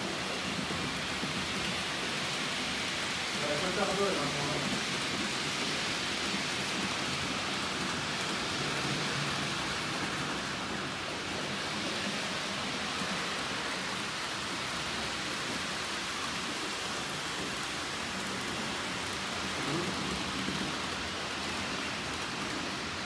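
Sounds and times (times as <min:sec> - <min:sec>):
model trains whirring on rails: 0:00.0 - 0:23.0.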